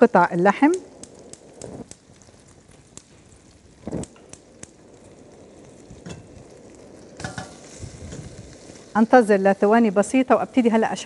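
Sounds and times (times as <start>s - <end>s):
meat sizzling in butter: 0.0s - 11.0s.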